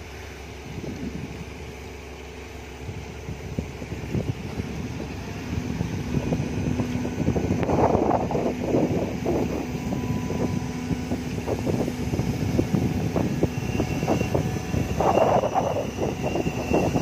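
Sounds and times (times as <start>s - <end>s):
excavator boom mechanical noise: 0.0s - 17.0s
excavator diesel engine running: 0.0s - 17.0s.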